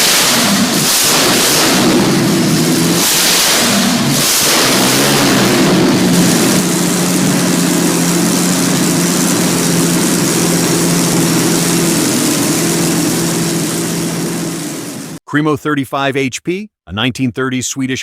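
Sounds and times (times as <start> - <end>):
aero engine deep drone: 0.0 - 15.2.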